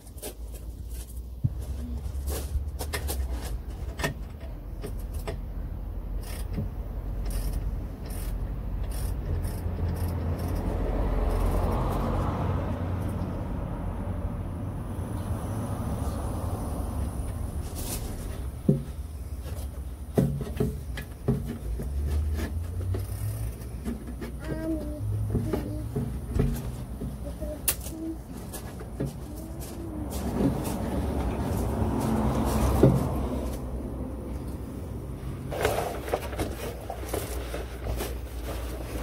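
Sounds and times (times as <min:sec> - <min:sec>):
passing vehicle: 0:05.1 - 0:39.0.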